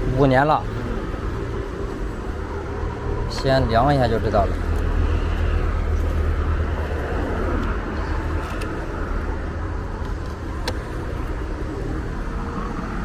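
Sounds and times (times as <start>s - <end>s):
motor vehicles rumbling: 0.0s - 13.0s.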